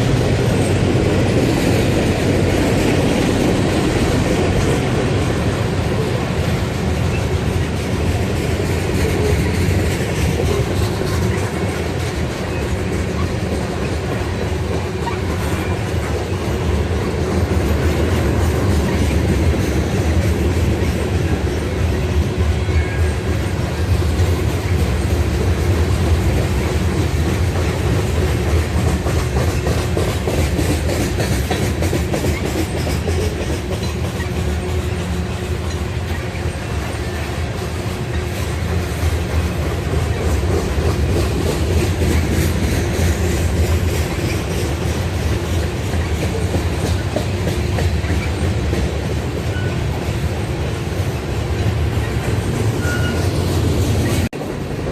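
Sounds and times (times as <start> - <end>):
freight train wheels clicking on rails: 0.0 - 54.9.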